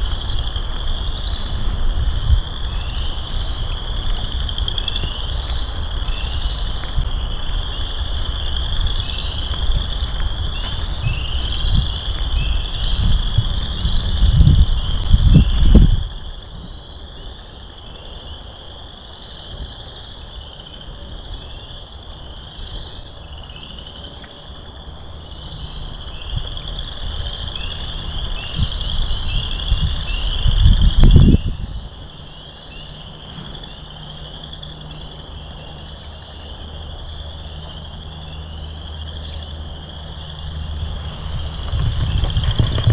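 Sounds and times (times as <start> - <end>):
frogs calling: 0.0 - 42.9
wind rumble on microphone: 0.0 - 42.9.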